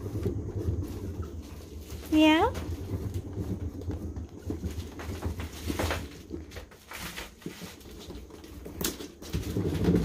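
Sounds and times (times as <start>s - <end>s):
cat exercise wheel rumbling: 0.0s - 10.0s.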